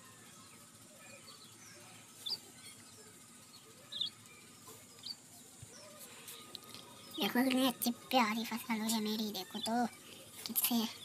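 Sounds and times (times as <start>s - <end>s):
bird chirping: 0.0s - 11.0s
faint background noise: 0.0s - 11.0s.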